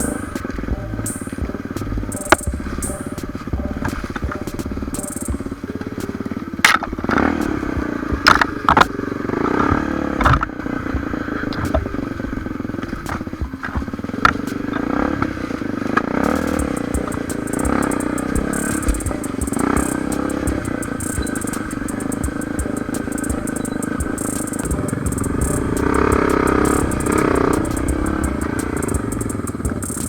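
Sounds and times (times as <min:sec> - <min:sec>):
motorcycle engine under load: 0:00.0 - 0:30.0.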